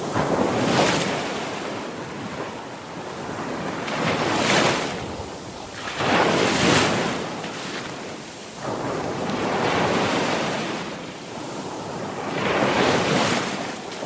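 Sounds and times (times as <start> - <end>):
sea waves crashing: 0.0 - 14.0.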